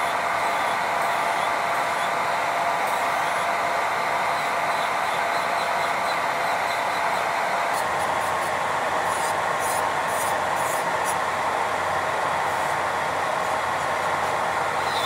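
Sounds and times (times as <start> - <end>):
dust collector fan: 0.0 - 15.0.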